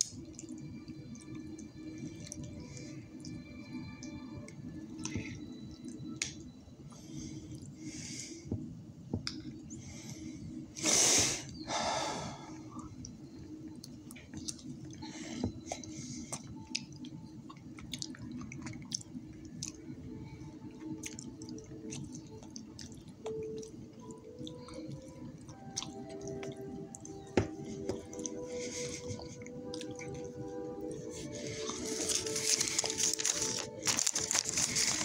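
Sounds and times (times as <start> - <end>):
man chewing and eating: 0.0 - 10.8, 12.6 - 35.0
faint steady tones: 0.0 - 35.0.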